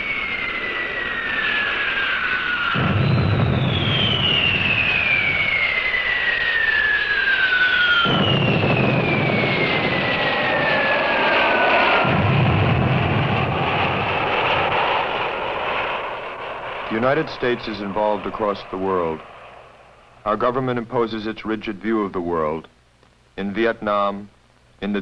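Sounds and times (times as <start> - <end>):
military aircraft flying over: 0.0 - 22.3.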